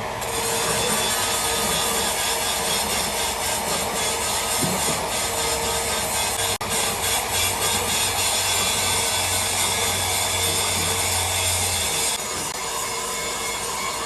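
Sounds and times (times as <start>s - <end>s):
metalworking machinery rasping hiss: 0.0s - 14.0s.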